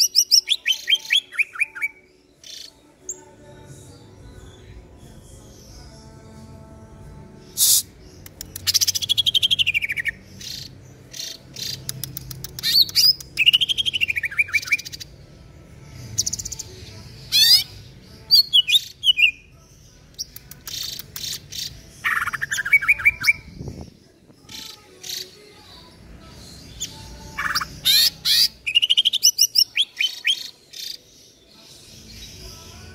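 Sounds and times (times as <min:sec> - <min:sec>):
bird singing varied song: 0:00.0 - 0:32.9.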